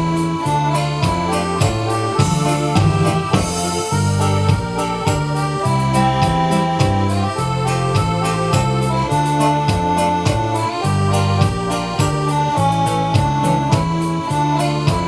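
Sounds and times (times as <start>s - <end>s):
bass line: 0.0s - 15.0s
electronic keyboard melody: 0.0s - 15.0s
steady drum beat: 0.0s - 15.0s.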